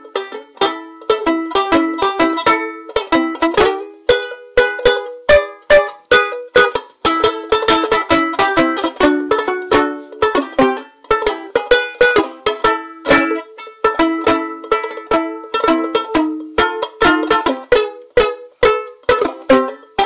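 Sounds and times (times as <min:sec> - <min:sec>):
banjo ukulele strummed chords: 0:00.0 - 0:20.0.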